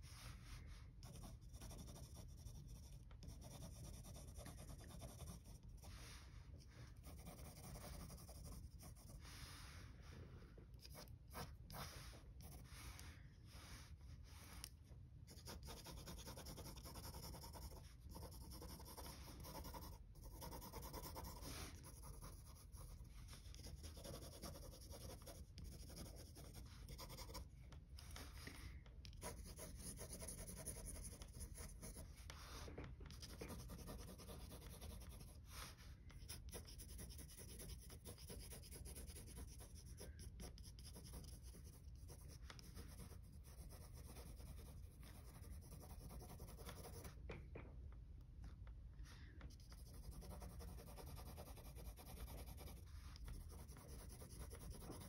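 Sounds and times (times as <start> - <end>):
pencil scratching on paper: 0.0 - 9.9, 10.7 - 47.2, 49.5 - 55.0.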